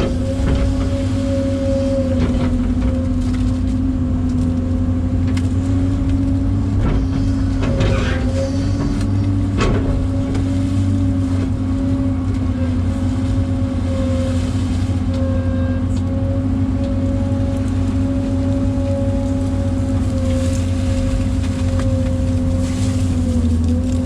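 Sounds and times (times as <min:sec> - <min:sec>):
excavator diesel engine: 0:00.0 - 0:24.0
hydraulic whine: 0:00.0 - 0:24.0.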